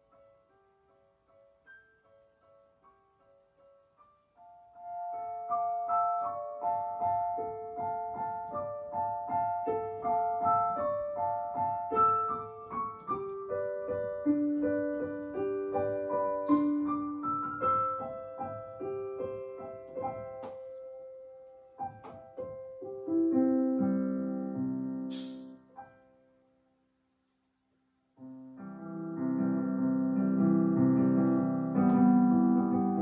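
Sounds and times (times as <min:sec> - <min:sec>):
gentle piano music: 0:00.0 - 0:26.6, 0:28.2 - 0:33.0.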